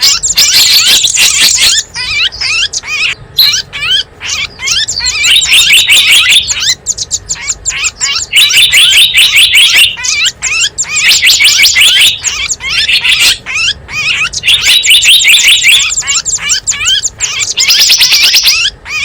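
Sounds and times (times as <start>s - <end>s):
small birds twittering: 0.0s - 19.0s.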